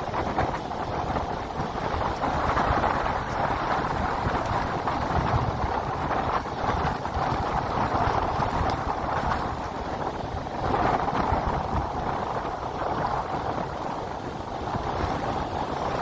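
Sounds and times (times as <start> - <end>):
strong wind buffeting microphone: 0.0 - 16.0
waves washing onto shore: 0.0 - 16.0.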